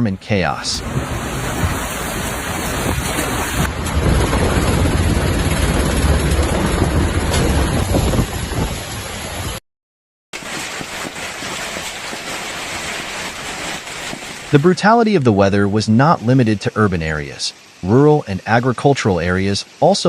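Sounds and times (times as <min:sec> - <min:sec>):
heavy rain beating down: 0:00.3 - 0:09.6, 0:10.4 - 0:20.0.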